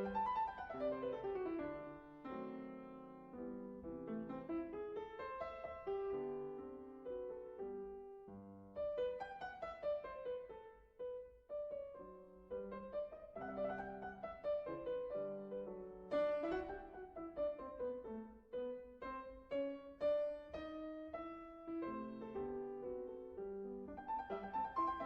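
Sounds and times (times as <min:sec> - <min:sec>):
classical piano piece: 0:00.0 - 0:25.0.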